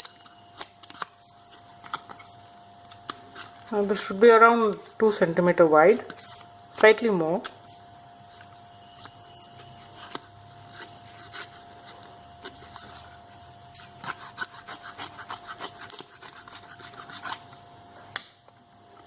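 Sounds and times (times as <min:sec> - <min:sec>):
crisp card cutting sounds: 0:00.0 - 0:17.6.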